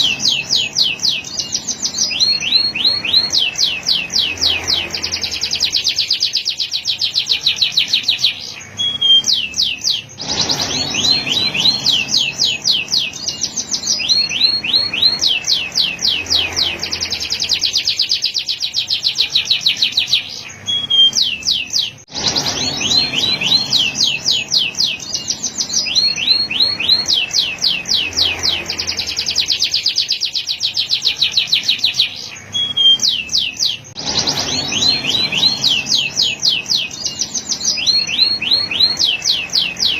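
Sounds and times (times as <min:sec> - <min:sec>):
canary singing trilled song: 0:00.0 - 0:39.9.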